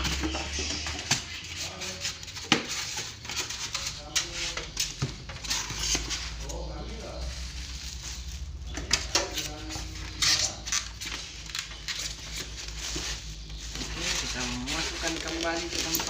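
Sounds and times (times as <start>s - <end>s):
hard objects clattering: 0.0s - 16.0s
rustling: 0.0s - 16.0s.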